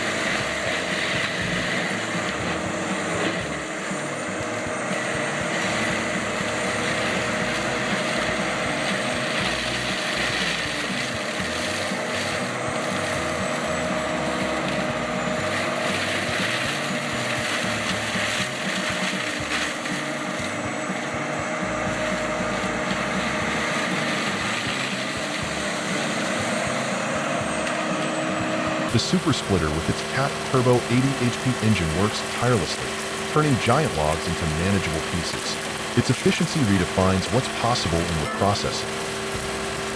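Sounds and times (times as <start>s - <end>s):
constant whine: 0.0s - 39.9s
heavy machinery engine running: 0.0s - 39.9s.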